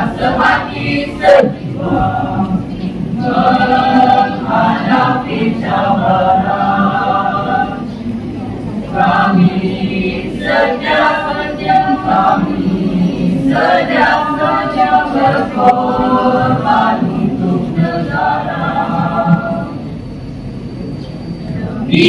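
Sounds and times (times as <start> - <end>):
mixed choir singing: 0.0 - 20.1, 21.7 - 22.0.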